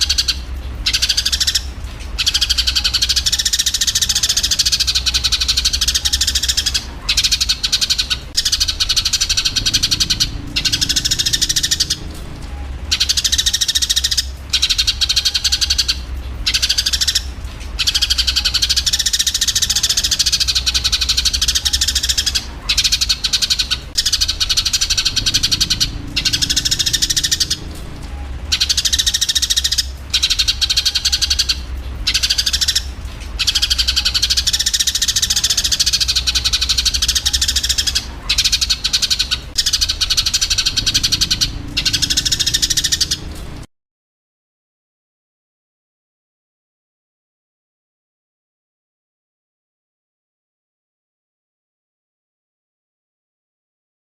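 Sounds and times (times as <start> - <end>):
low steady hum: 0.0 - 43.7
sparrows chattering: 0.0 - 43.7.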